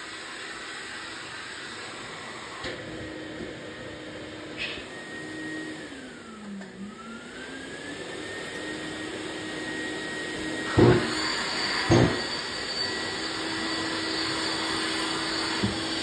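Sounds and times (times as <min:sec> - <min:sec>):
dust extractor running: 0:00.0 - 0:16.0.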